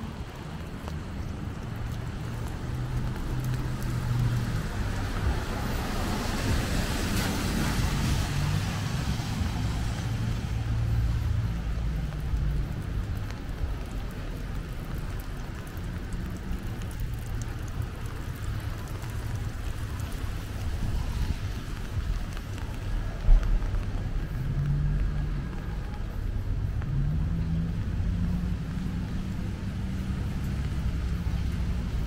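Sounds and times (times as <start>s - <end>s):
rain: 0.0s - 32.0s
wind rumbling on microphone: 0.0s - 32.0s.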